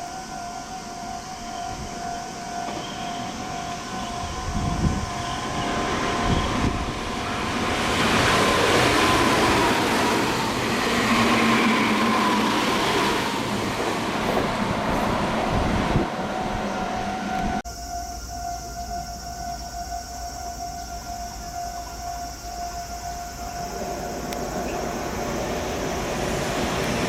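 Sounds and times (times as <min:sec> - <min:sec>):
electric train passing at speed: 0:00.0 - 0:27.0
steady warning tone: 0:00.0 - 0:27.0.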